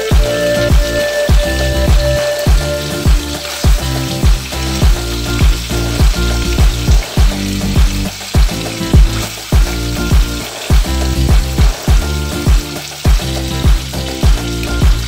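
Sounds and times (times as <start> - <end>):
background music with deep drum beat: 0.0 - 15.0
chicken sizzling in a frying pan: 0.0 - 15.0.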